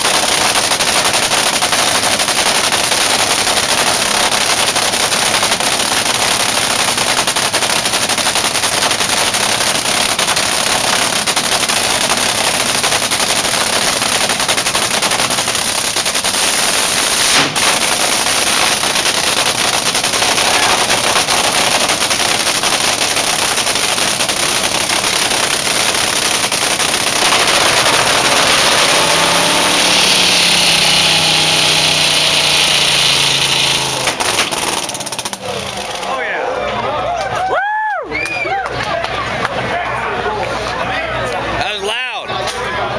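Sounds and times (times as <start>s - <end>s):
dragster engine running loud: 0.0s - 37.0s.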